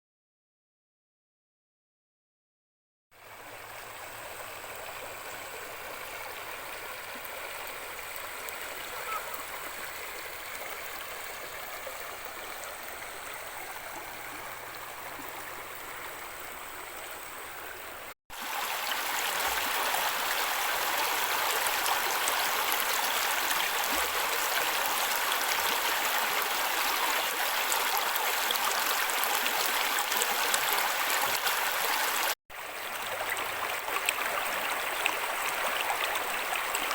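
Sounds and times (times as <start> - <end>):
mountain stream flowing: 3.2 - 36.9.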